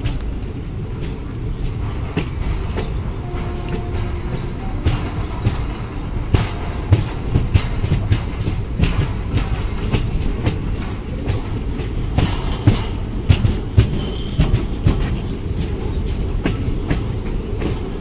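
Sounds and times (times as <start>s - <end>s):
train wheels rumbling: 0.0s - 18.0s
wheels clicking over rail joints: 0.0s - 18.0s.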